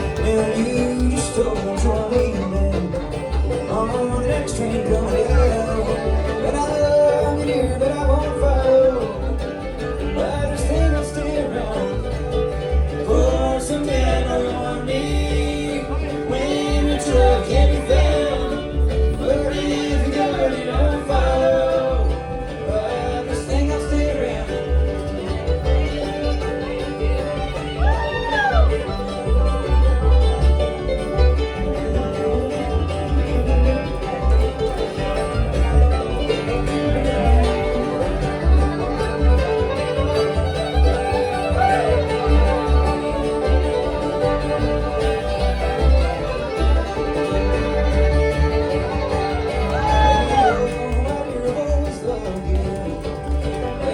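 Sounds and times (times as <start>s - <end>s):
bluegrass band playing: 0.0s - 53.9s.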